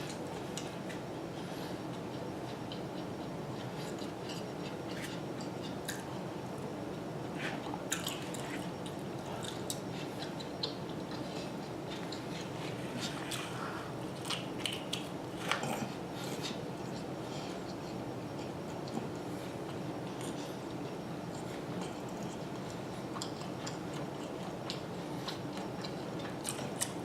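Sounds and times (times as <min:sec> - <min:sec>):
background hum: 0:00.0 - 0:27.0
chewing and biting food: 0:01.8 - 0:27.0.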